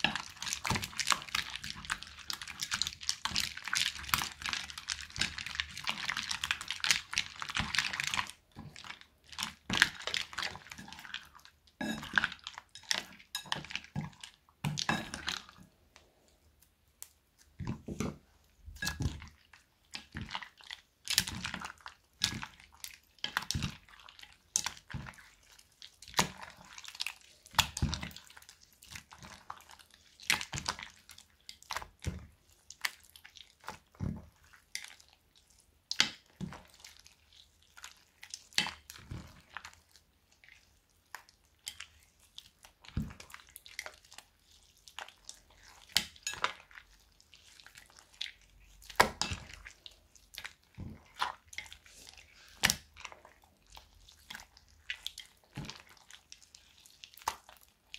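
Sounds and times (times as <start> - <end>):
wet slime squelches: 0.0 - 57.9.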